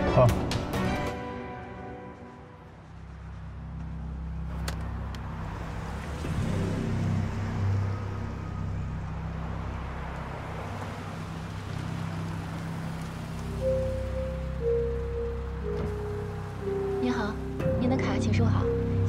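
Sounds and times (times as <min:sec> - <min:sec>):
tyre and road noise: 0:02.4 - 0:19.0
car engine hum: 0:02.6 - 0:19.0.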